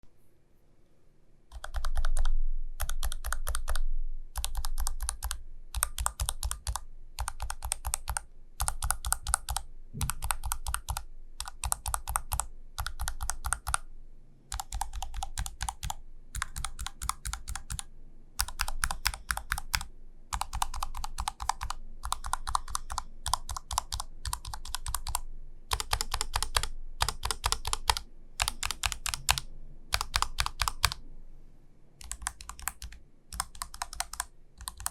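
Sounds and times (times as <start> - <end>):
keyboard typing: 1.5 - 3.8, 4.4 - 13.9, 14.5 - 31.0, 32.0 - 34.9.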